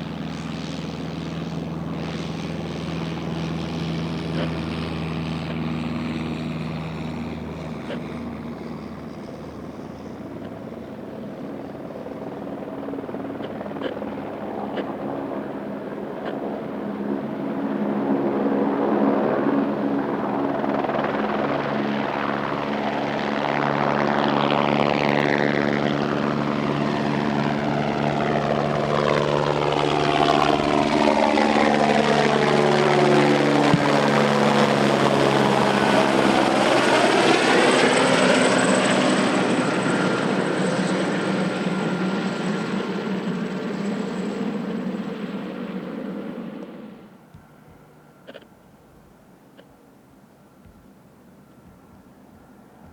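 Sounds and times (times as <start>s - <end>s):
helicopter passing by: 0.0s - 52.9s.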